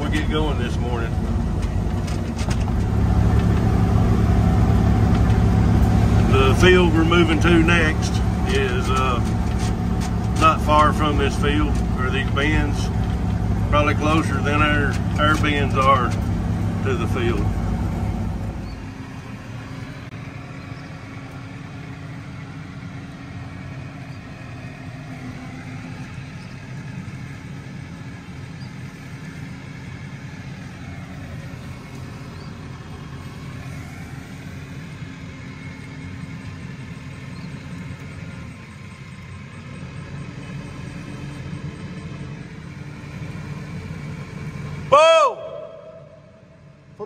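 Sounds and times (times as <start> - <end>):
truck diesel engine running: 0.0 - 47.0.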